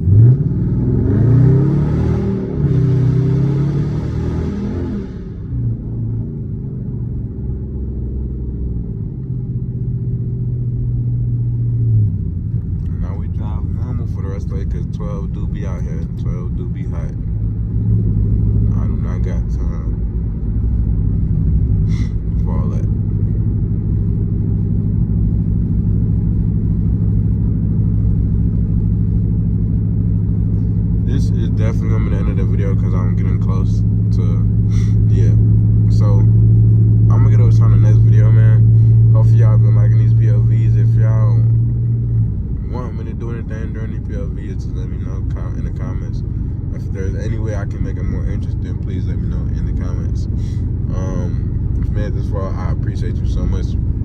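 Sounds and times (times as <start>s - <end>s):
car engine rumbling drone: 0.0s - 54.0s.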